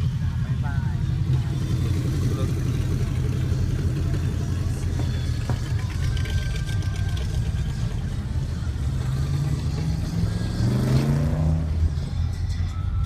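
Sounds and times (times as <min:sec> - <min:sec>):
car engine rumbling and accelerating: 0:00.0 - 0:13.0.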